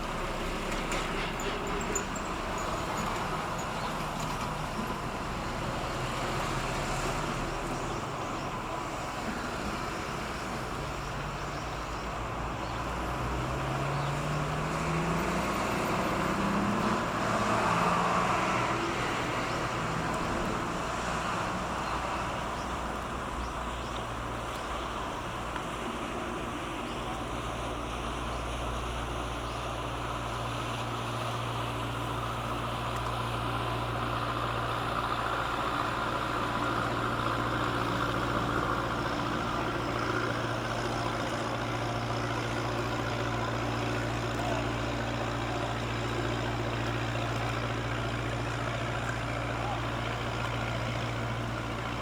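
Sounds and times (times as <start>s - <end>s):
diesel tug engine drone: 0.0s - 52.0s.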